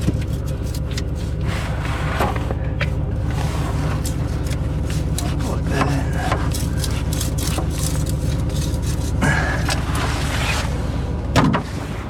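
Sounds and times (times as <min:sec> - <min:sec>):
metallic clanks and scrapes: 0:00.0 - 0:10.8
engine rumbling: 0:00.0 - 0:12.0.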